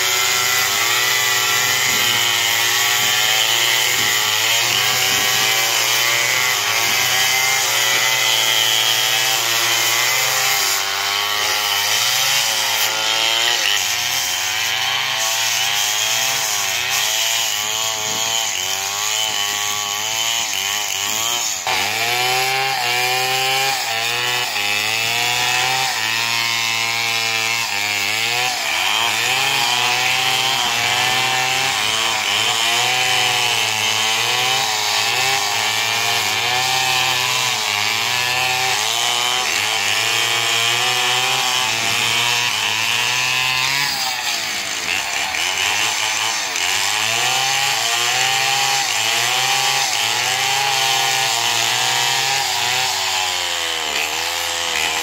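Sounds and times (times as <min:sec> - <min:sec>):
chainsaws cutting wood: 0:00.0 - 0:55.0.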